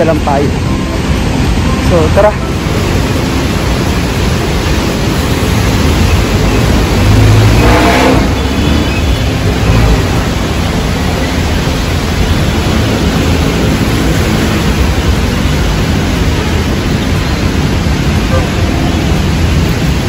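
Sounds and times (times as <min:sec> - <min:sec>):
rain: 0:00.0 - 0:20.0.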